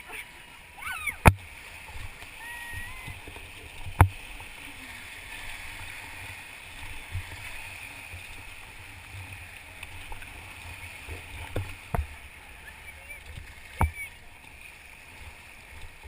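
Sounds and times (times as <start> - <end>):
river water rushing and gurgling: 0.0 - 16.0.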